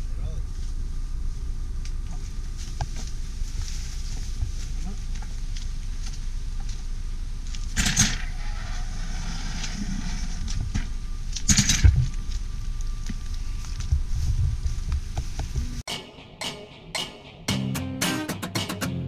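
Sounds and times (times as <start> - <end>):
steady low rumble: 0.0 - 17.7.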